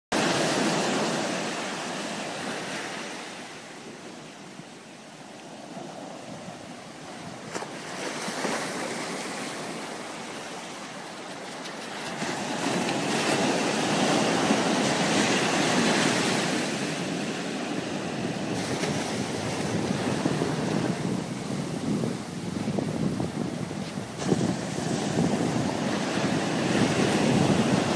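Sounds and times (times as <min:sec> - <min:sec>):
ocean surf breaking on beach: 0:00.2 - 0:27.9.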